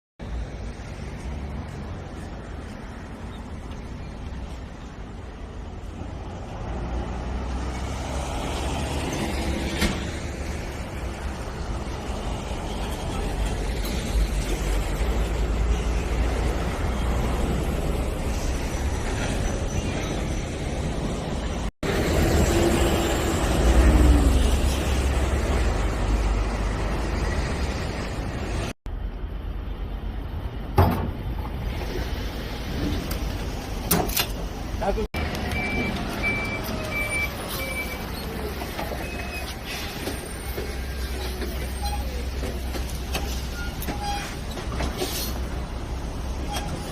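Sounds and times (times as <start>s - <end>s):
heavy vehicle engine rumbling: 0.2s - 46.9s.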